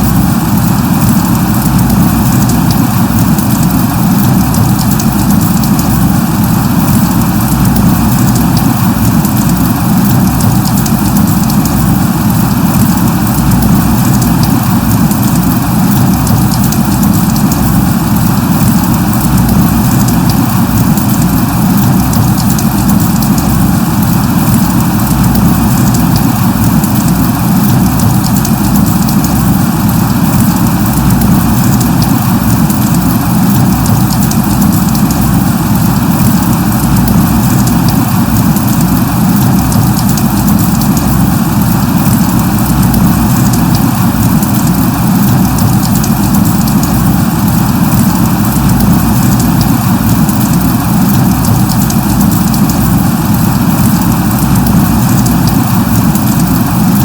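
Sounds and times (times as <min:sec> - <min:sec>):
fine drop ticks: 0:00.0 - 0:57.0
steady rain falling: 0:00.0 - 0:57.0.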